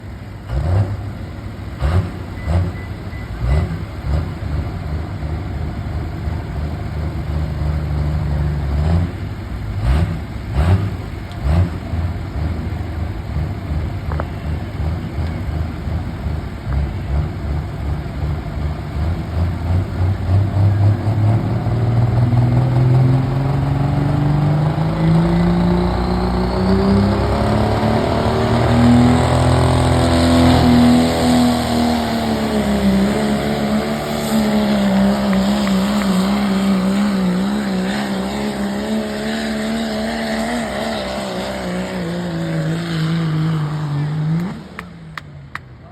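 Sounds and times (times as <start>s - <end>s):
big engine running: 0.0s - 42.2s.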